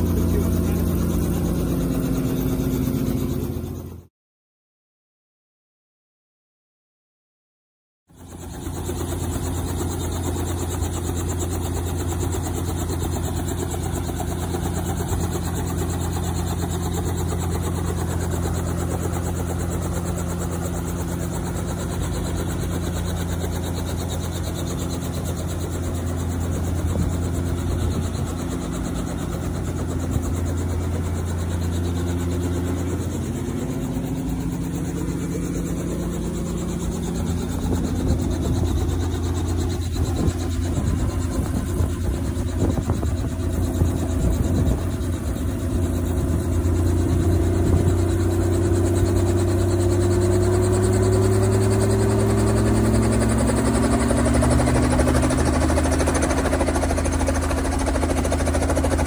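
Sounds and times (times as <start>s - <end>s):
helicopter engine and rotor: 0.0s - 4.1s, 8.1s - 59.0s.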